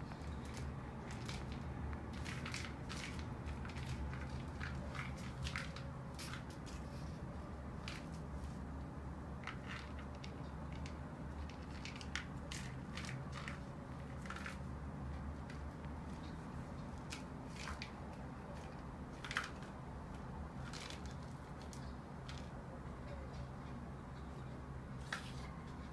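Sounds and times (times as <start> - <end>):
kittens chewing crunchy food: 0.0 - 23.9
low steady hum: 0.0 - 25.9.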